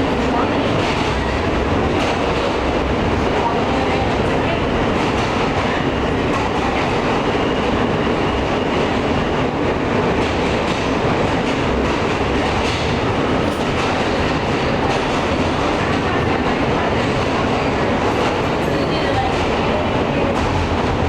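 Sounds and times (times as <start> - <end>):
subway car wheels rumbling on rails: 0.0 - 21.0.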